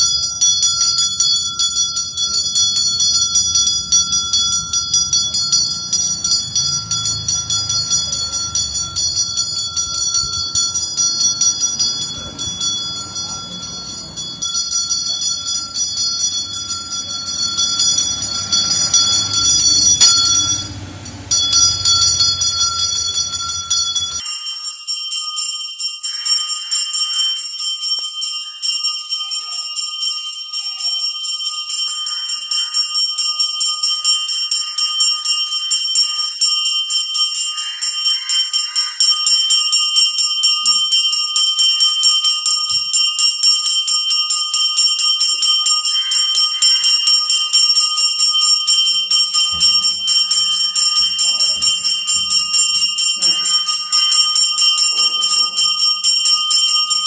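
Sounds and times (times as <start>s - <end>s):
bell ringing rapidly: 0.0s - 57.0s.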